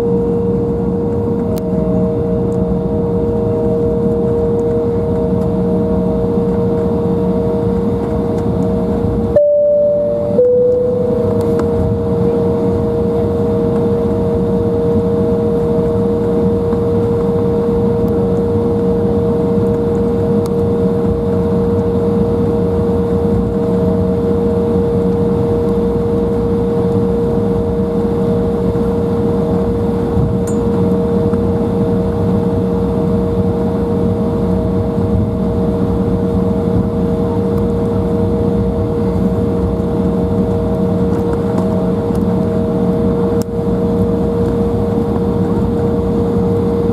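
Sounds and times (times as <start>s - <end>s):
turbofan engines whining: 0.0s - 46.9s.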